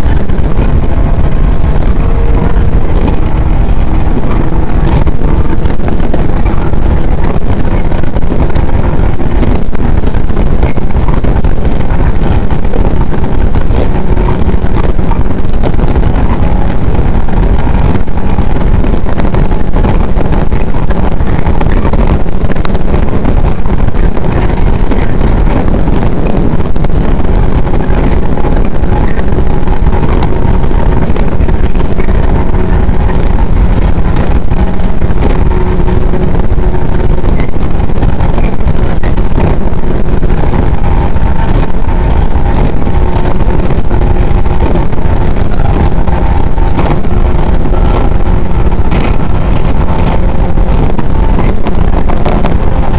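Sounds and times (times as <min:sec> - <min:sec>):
train wheels on rails: 0:00.0 - 0:22.1, 0:22.9 - 0:52.9
faint steady hum: 0:00.0 - 0:52.9.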